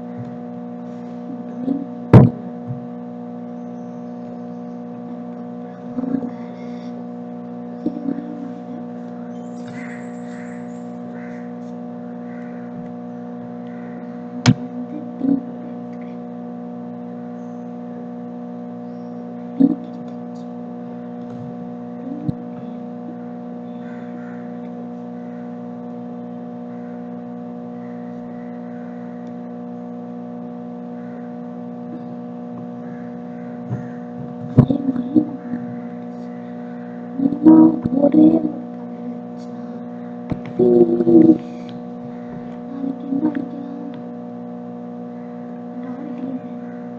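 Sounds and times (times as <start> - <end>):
steady electrical hum: 0.0 - 46.9.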